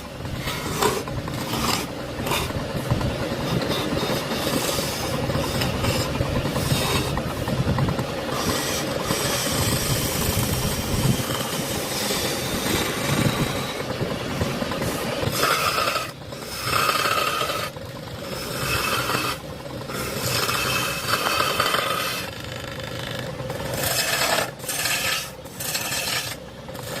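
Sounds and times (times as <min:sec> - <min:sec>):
scraping against hard surface: 0:00.0 - 0:27.0.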